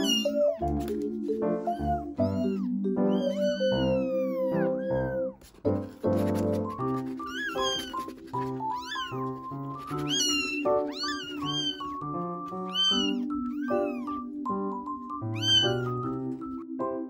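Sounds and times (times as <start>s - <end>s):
kittens mewing: 0.0s - 16.6s
piano music: 0.0s - 17.0s.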